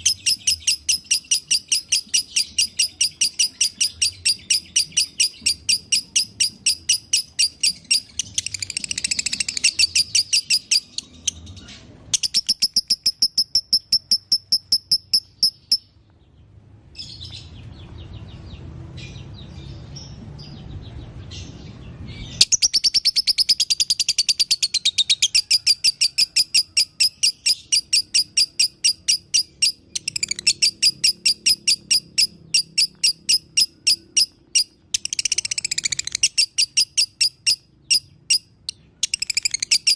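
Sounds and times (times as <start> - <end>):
lovebird chattering chirps: 0.0 - 11.4, 12.1 - 15.9, 22.4 - 39.9.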